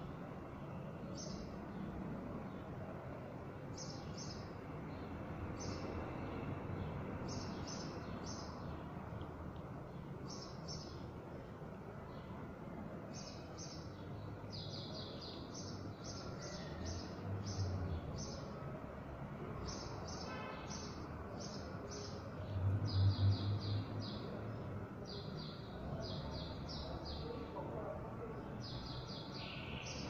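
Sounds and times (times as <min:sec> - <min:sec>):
small birds chirping: 0:00.6 - 0:18.6, 0:19.6 - 0:30.0.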